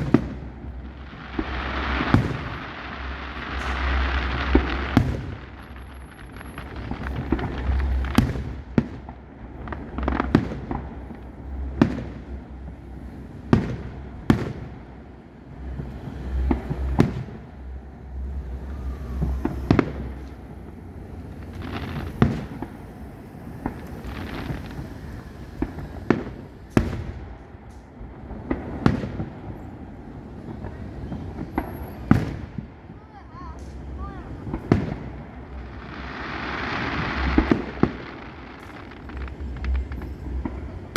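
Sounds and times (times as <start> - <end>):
small firework pops: 0.0 - 12.4, 13.5 - 14.8, 18.3 - 40.9
fireworks bangs with echo: 0.0 - 40.9.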